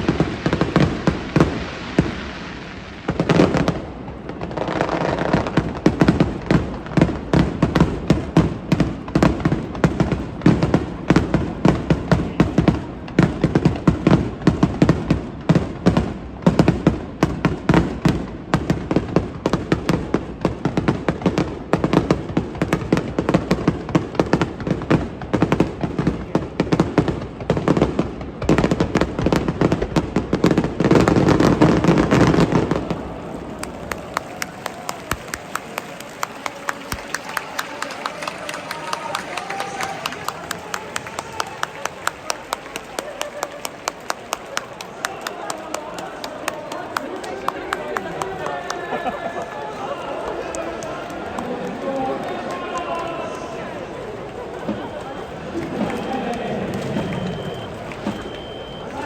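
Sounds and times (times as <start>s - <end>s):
fireworks bursts and crackles: 0.0s - 59.0s.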